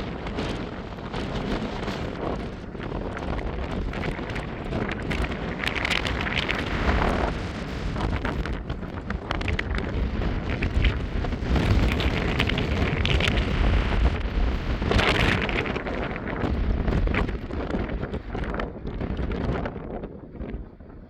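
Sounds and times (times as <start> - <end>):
crackles: 0.0 - 20.6
wind buffeting microphone: 0.0 - 21.0.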